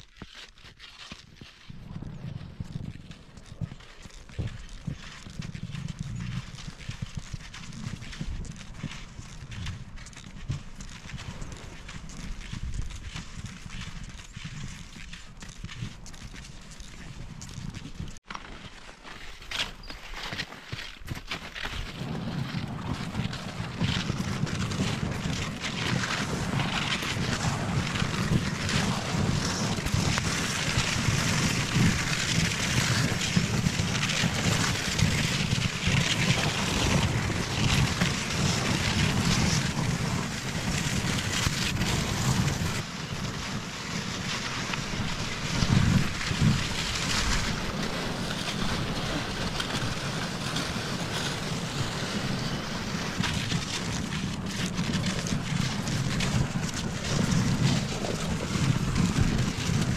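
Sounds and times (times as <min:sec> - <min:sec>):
skis sliding over snow: 0:00.0 - 0:59.9
wind on microphone: 0:01.6 - 0:18.2, 0:21.8 - 0:59.9.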